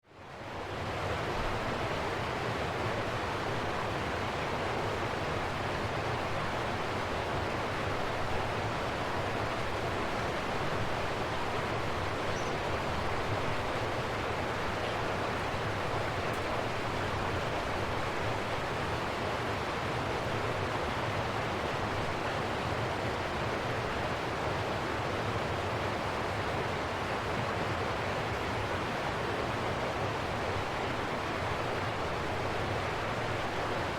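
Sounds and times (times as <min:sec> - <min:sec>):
river water rushing: 0:00.3 - 0:33.9.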